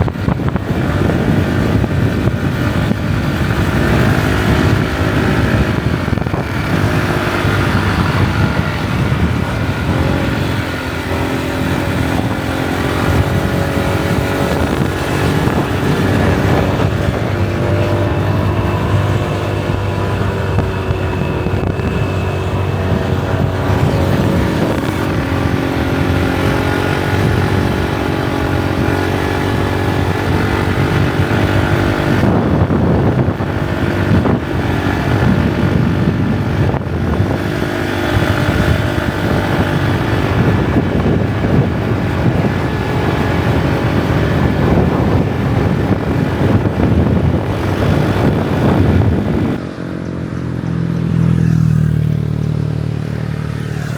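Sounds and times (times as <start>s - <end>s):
motorbike engine running: 0.0s - 53.9s
wind rushing over microphone: 0.0s - 53.9s.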